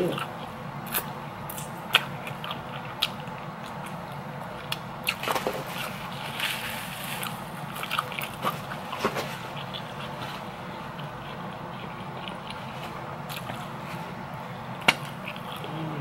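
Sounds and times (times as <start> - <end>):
chewing and biting: 0.0 - 6.4, 7.2 - 14.1, 14.7 - 16.0.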